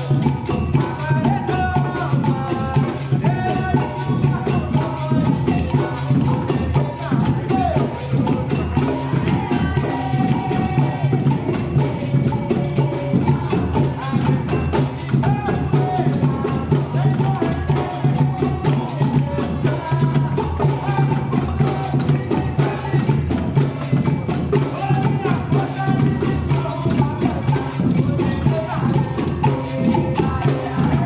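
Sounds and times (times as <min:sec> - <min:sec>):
drums playing fast rhythm: 0:00.0 - 0:31.0.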